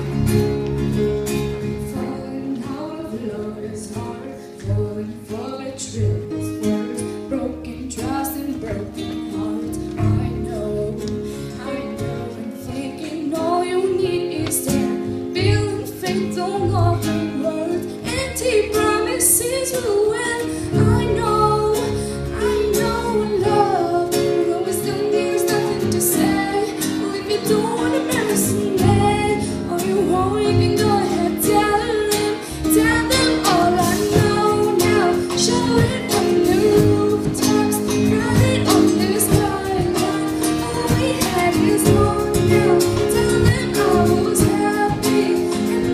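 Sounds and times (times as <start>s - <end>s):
guitar accompaniment: 0.0s - 45.9s
woman singing: 1.6s - 45.9s.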